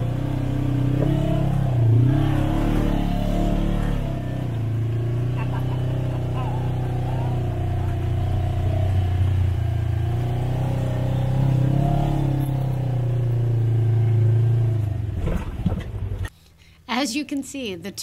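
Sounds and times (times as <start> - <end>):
small vehicle engine running: 0.0 - 16.3.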